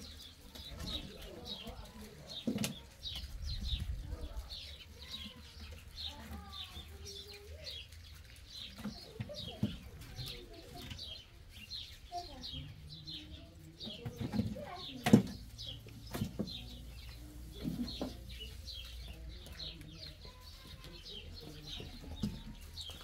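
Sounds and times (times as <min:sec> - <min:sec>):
small bird chirping: 0:00.0 - 0:23.0.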